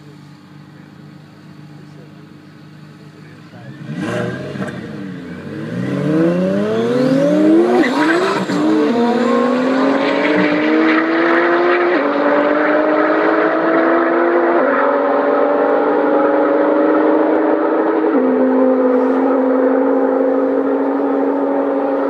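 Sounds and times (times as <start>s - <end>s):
race car engines accelerating: 0.0s - 22.0s.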